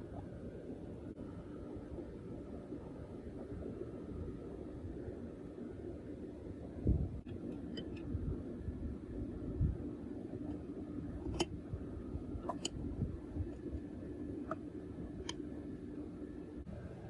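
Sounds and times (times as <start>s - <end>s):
low workshop hum: 0.0s - 17.0s.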